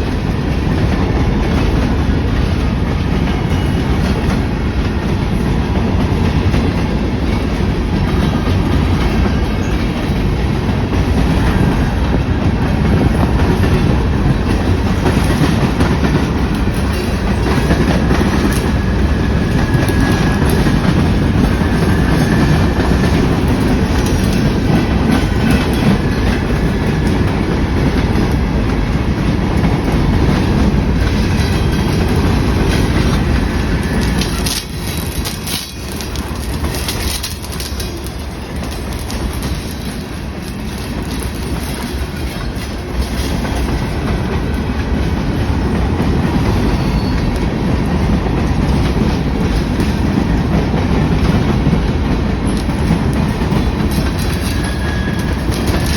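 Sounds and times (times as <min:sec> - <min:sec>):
train rumbling past: 0:00.0 - 0:55.9
wheel clatter on track: 0:00.0 - 0:55.9.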